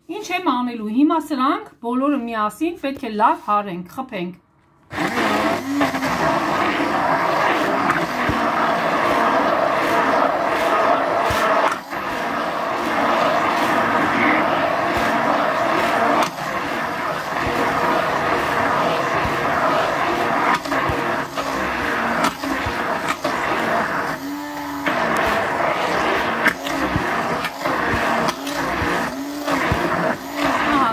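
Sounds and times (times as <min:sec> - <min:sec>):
immersion blender running: 0:04.9 - 0:30.9.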